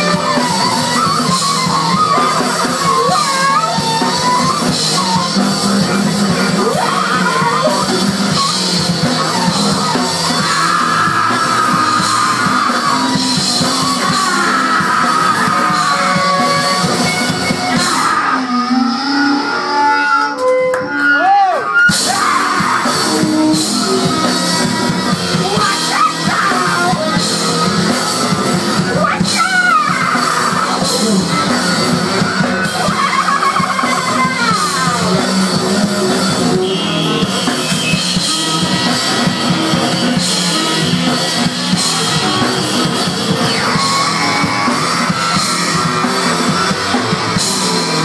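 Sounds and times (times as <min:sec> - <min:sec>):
sliding saxophone wails: 0:00.0 - 0:27.6, 0:28.9 - 0:48.0
brass-rock band playing: 0:00.0 - 0:48.0.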